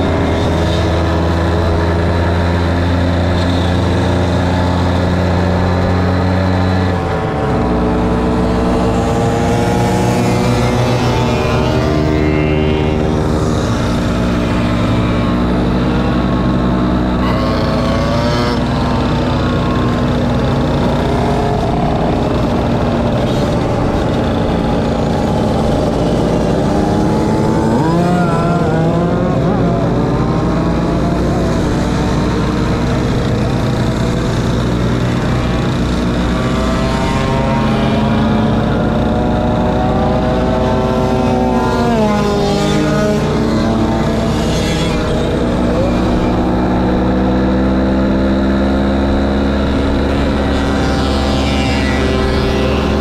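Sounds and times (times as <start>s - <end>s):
engine revving: 0.0s - 53.0s
mopeds and motorcycles running: 0.0s - 53.0s.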